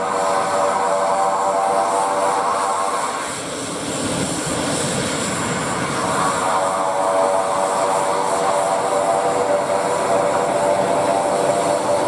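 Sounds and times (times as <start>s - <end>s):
propeller whine: 0.0s - 12.0s.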